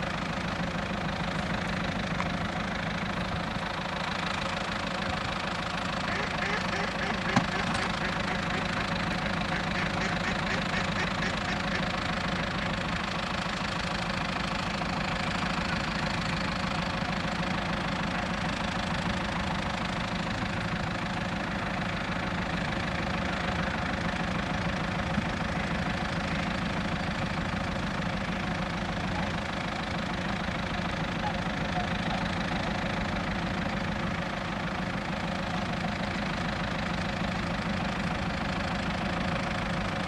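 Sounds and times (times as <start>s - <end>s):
tractor engine idling: 0.0s - 40.0s.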